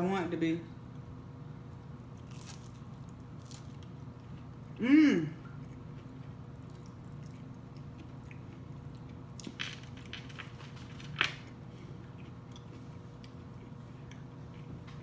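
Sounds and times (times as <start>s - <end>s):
person chewing: 2.1s - 15.0s.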